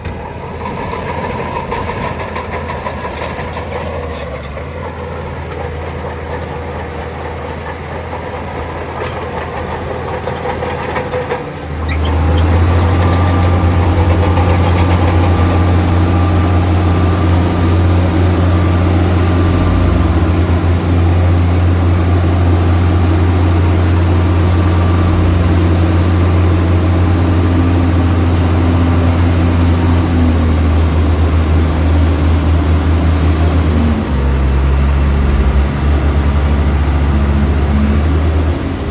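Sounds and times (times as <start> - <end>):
heavy diesel engine drone: 0.0 - 38.9.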